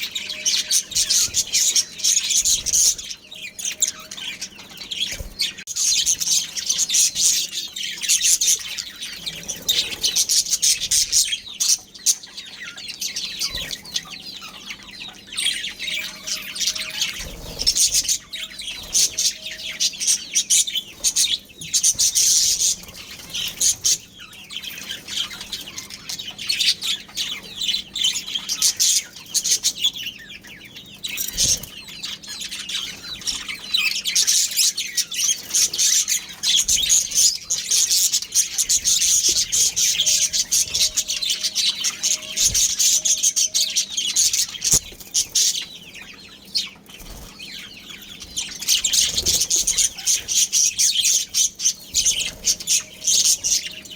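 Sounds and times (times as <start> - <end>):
budgerigars chirping: 0.0 - 53.9.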